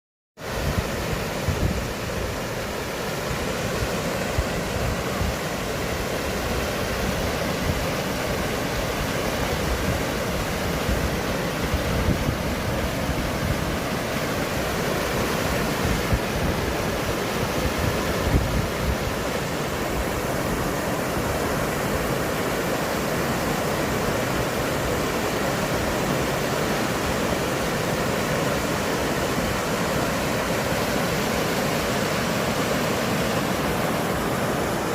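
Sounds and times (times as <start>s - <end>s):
steady rushing noise: 0.4s - 34.9s.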